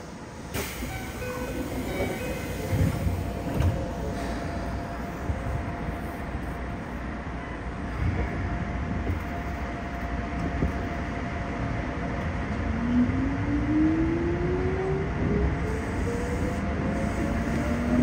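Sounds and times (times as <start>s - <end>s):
train hum: 0.0s - 18.0s.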